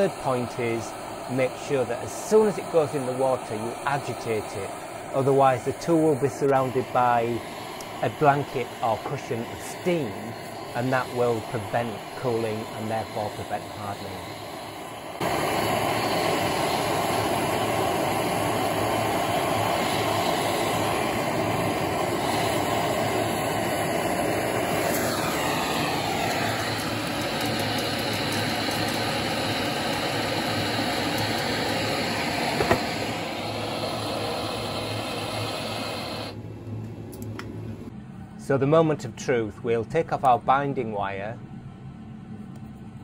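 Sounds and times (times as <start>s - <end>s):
gas blowtorch roaring: 0.0s - 37.9s.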